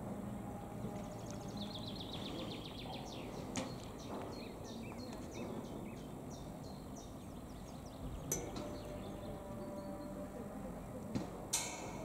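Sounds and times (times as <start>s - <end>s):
songbirds trilling and chirping: 0.0s - 12.0s.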